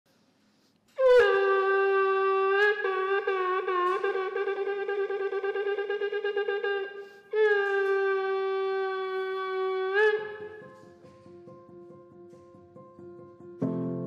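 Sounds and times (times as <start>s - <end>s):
shofar blasts: 0.9s - 12.5s.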